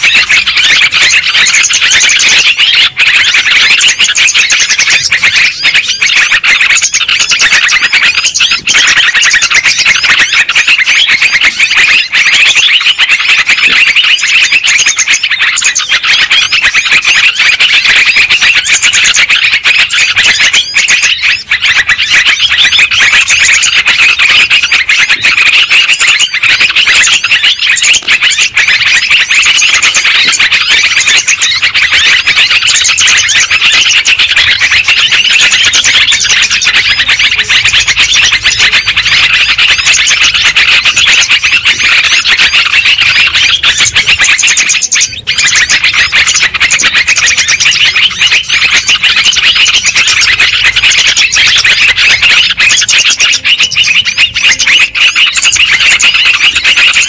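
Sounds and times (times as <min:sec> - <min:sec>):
bulbul chirping: 0:00.0 - 0:57.0.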